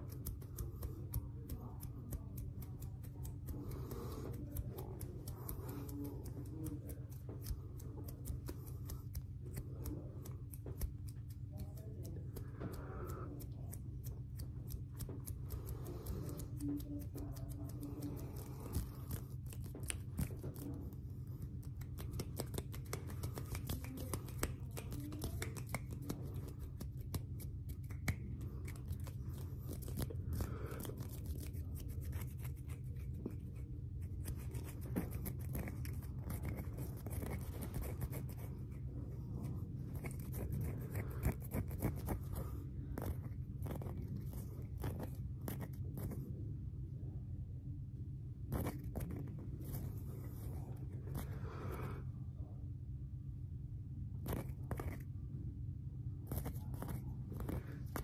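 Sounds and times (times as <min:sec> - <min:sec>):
hands rubbing and flicking: 0:00.0 - 0:46.2, 0:48.5 - 0:51.8, 0:56.3 - 0:58.0
low hum: 0:00.0 - 0:58.0.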